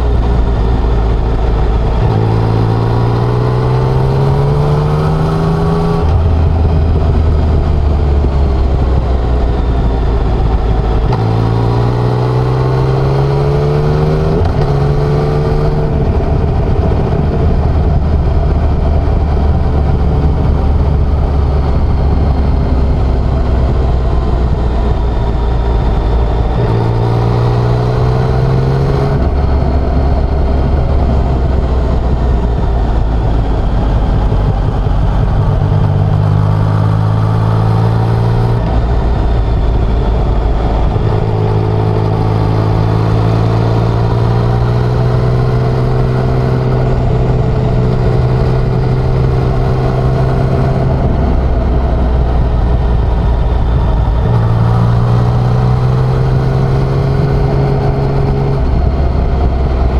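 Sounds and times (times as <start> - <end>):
motorcycle engine accelerating: 0.0 - 59.9
rushing wind noise: 0.0 - 59.9.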